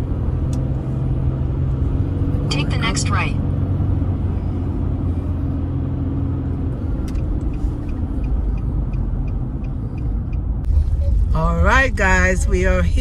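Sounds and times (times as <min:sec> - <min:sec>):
car engine and road rumble: 0:00.0 - 0:13.0
turn signal ticking: 0:00.0 - 0:13.0.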